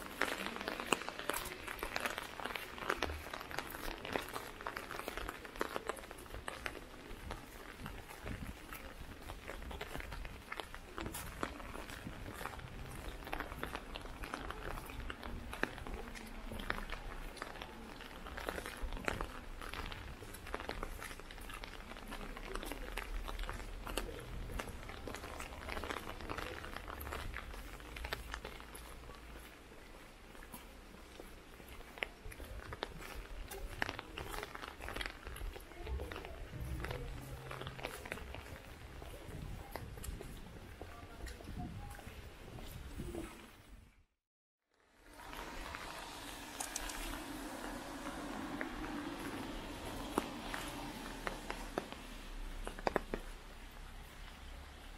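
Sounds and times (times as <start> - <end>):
raindrops tapping on umbrella: 0.0 - 29.7, 31.4 - 42.0, 44.9 - 54.9
footsteps on pavement: 0.0 - 43.8, 44.9 - 54.9.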